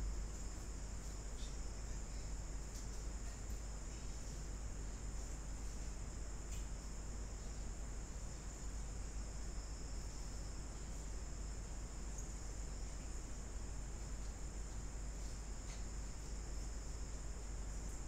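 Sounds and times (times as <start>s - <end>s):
faint high-pitched whine: 0.0s - 18.0s.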